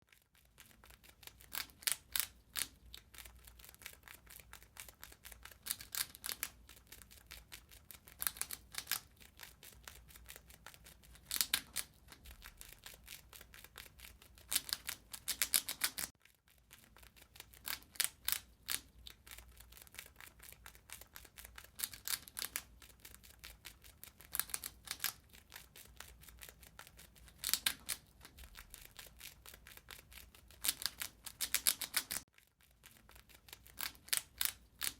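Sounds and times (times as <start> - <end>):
rat gnawing: 0.0 - 34.9.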